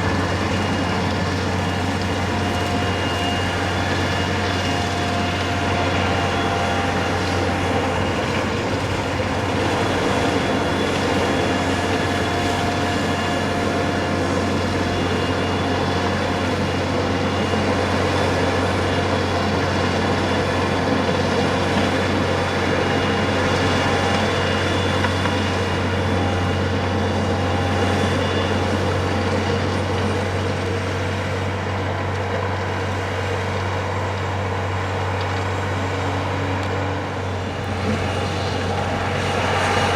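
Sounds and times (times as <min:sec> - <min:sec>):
vehicle engine drone: 0:00.0 - 0:39.9.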